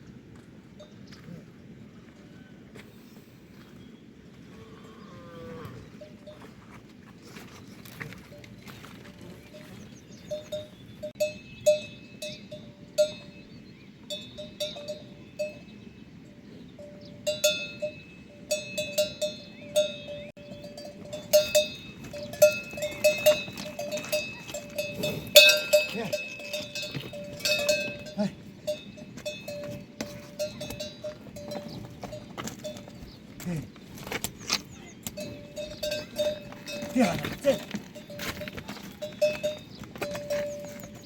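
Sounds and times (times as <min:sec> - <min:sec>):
livestock bell clanking: 0:07.3 - 0:41.0.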